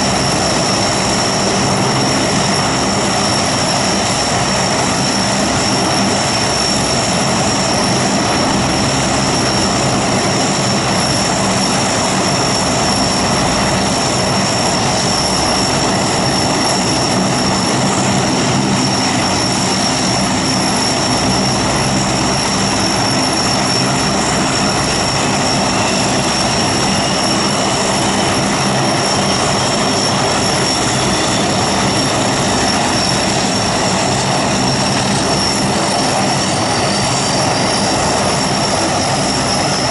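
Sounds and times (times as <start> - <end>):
propeller drone: 0.0 - 39.9
turbine whine: 0.0 - 39.9.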